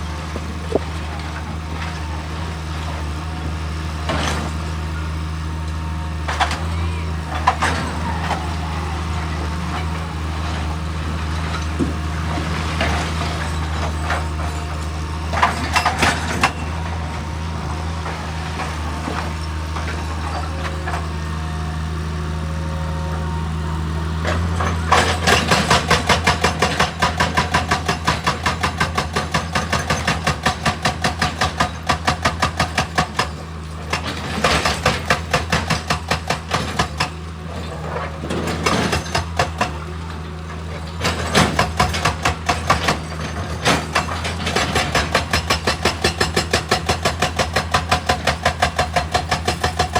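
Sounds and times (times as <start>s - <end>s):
diesel machinery engine running: 0.0s - 49.9s.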